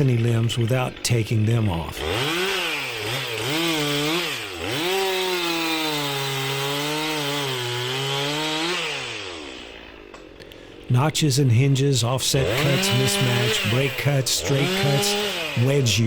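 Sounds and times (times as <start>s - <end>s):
chainsaw cutting wood: 0.0s - 10.9s, 12.3s - 16.0s.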